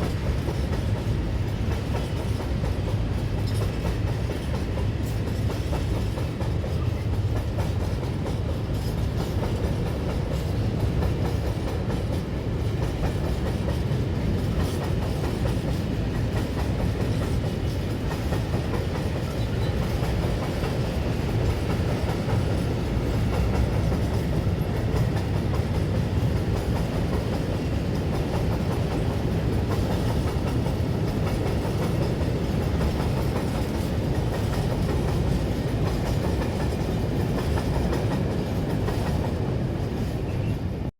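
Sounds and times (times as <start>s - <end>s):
train rumbling along track: 0.0s - 40.9s.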